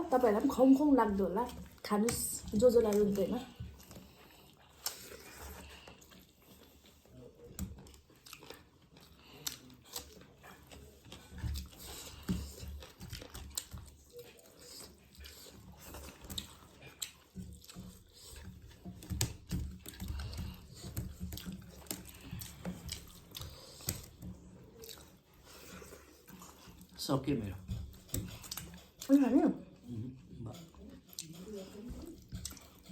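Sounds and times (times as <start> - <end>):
person chewing food: 0.0 - 32.9.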